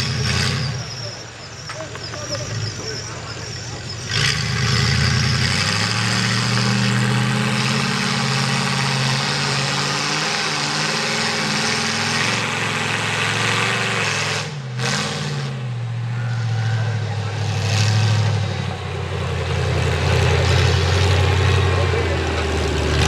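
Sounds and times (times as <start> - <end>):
loud truck engine revving: 0.0 - 23.0.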